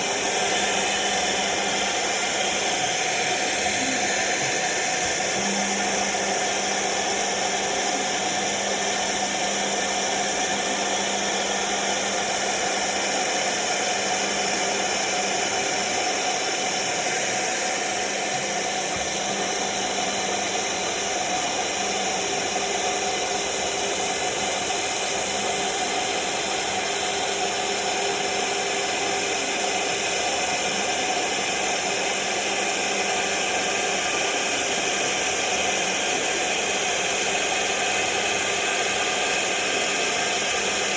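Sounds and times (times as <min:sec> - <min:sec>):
cnc router spindle cutting: 0:00.0 - 0:40.9.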